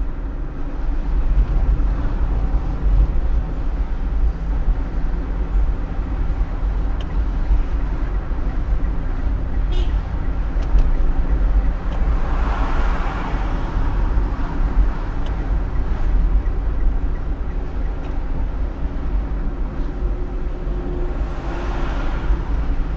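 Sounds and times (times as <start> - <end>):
vehicle engine and road rumble: 0.0 - 22.9.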